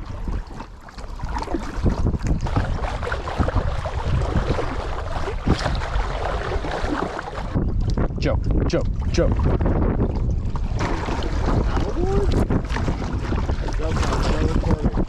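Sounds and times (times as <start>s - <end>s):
water splashing around kayak: 0.0s - 15.0s
wind on microphone: 0.0s - 15.0s.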